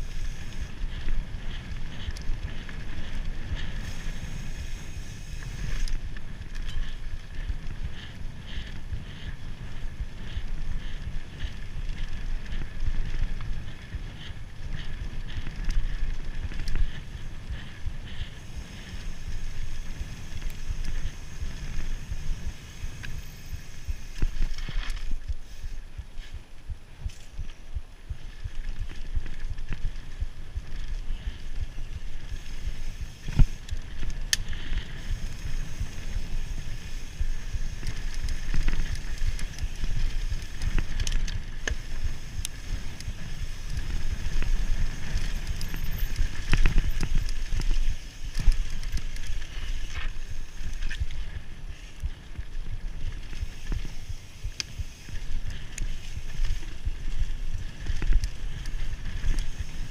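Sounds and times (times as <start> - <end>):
bike rattling and knocking: 0.0 - 59.9
bike tyres rumbling on dirt: 0.0 - 59.9.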